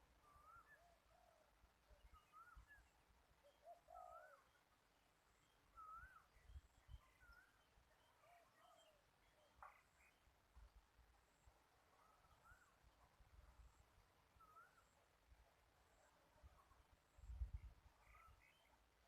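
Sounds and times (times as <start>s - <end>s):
birds singing faintly: 0.0s - 19.0s.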